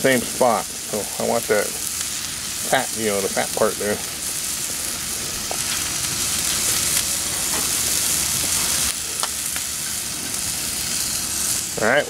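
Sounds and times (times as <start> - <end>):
steak sizzling on griddle: 0.0 - 12.0.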